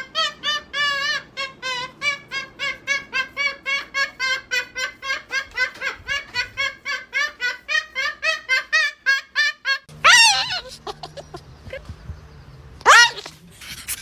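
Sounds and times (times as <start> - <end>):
high-pitched laughing: 0.0 - 11.9.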